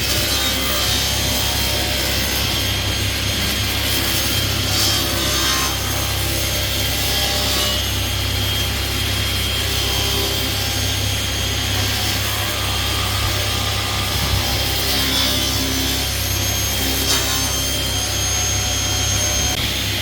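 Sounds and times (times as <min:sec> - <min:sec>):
table saw cutting wood: 0:00.0 - 0:20.0.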